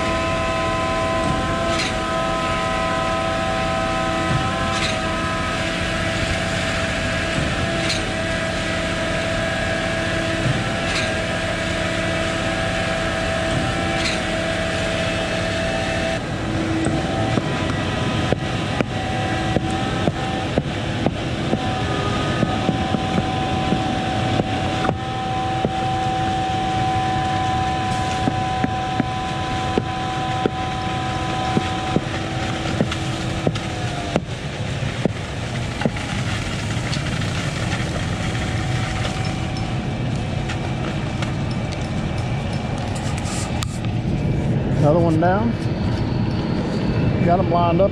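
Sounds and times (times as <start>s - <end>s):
diesel engine drone: 0.0s - 47.9s
machine whine: 0.0s - 47.9s.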